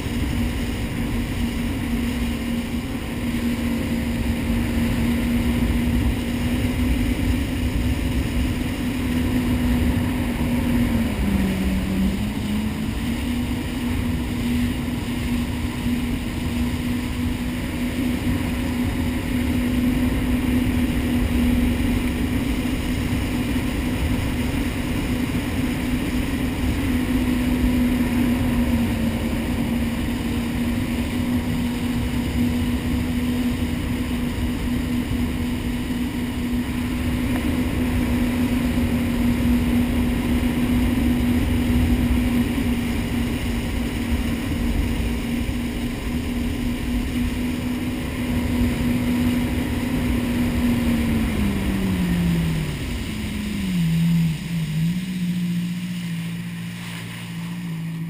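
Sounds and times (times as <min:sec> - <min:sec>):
jet ski engine running: 0:00.0 - 0:58.0
water rushing: 0:00.0 - 0:58.0.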